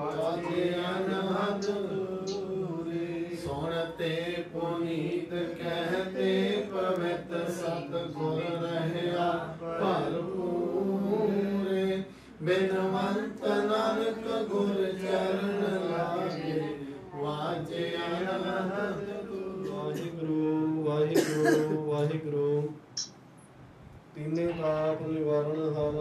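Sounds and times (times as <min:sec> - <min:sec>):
person singing devotional chant: 0:00.0 - 0:22.8, 0:24.2 - 0:26.0.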